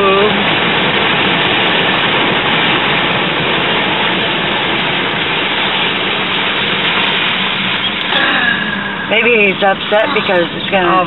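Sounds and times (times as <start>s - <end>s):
car engine running: 0.0s - 11.0s
floodwater rushing against car: 0.0s - 11.0s.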